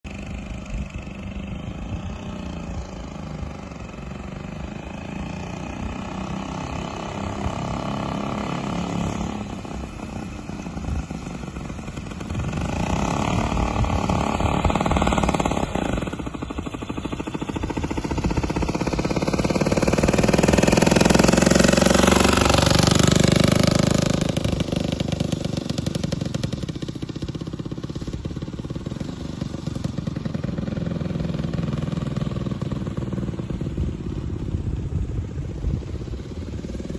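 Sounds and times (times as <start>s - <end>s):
motor tricycle engine running: 0.1s - 36.9s.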